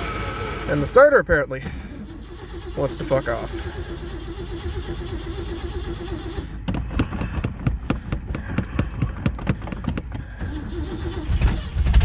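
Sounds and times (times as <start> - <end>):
truck engine firing unevenly: 0.0 - 12.0
truck starter cranking with whine: 0.0 - 12.0.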